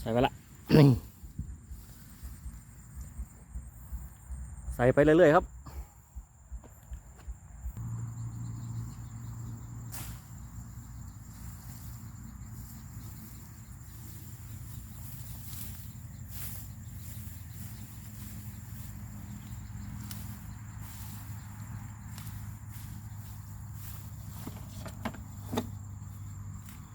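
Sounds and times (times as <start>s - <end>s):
insects chirring: 0.0s - 26.9s.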